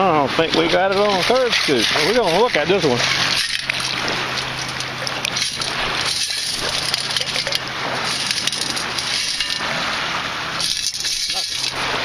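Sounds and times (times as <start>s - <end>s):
water sloshing: 0.0s - 12.0s
shells and grit rattling in scoop: 0.4s - 9.9s, 10.5s - 12.0s.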